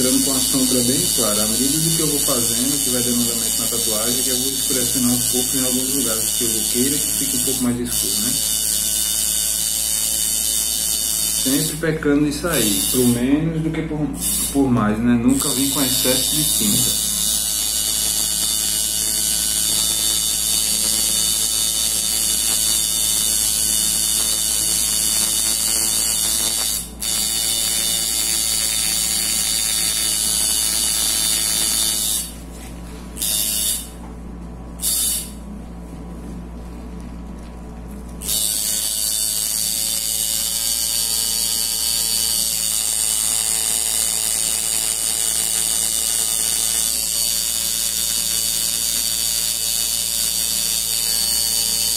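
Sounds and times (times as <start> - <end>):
tattoo machine buzzing: 0.0 - 34.0, 34.8 - 35.6, 38.2 - 51.9.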